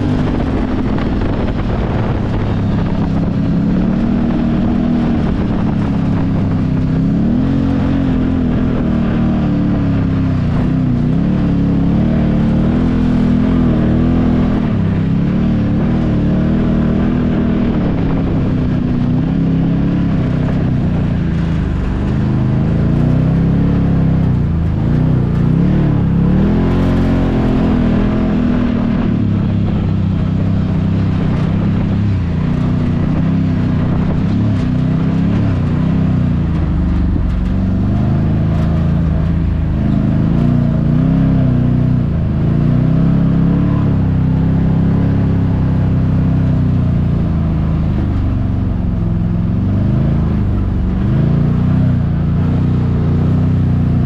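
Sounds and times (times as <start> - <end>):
constant rush of noise: 0.0 - 54.0
engine revving: 0.0 - 54.0.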